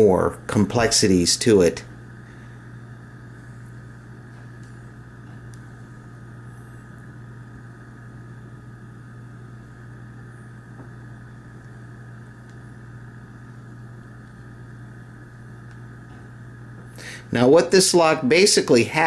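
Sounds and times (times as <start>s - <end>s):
low hum: 0.0s - 18.3s.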